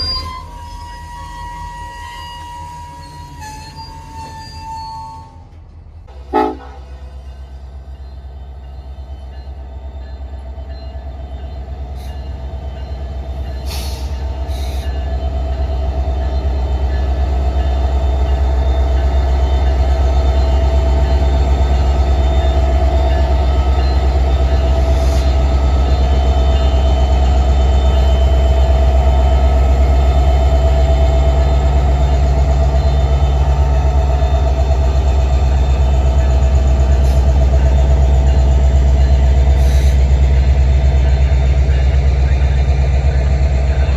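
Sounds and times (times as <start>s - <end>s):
diesel locomotive engine rumble: 0.0s - 43.9s.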